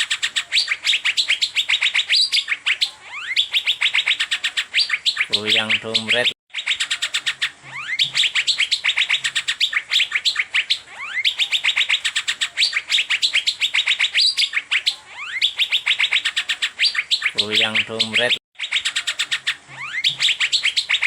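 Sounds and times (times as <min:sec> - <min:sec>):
bird chattering song: 0:00.0 - 0:21.0.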